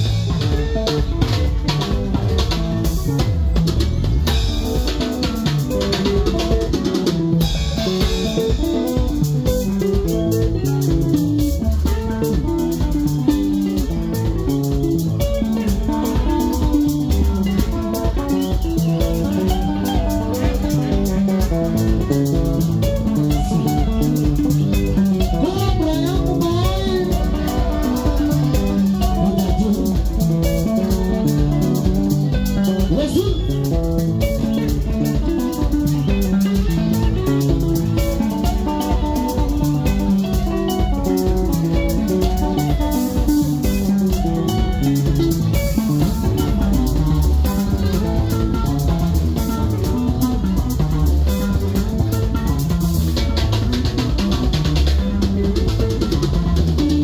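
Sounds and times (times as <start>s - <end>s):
bass guitar: 0.0s - 57.0s
drum kit: 0.0s - 57.0s
electric guitar lines: 0.0s - 57.0s.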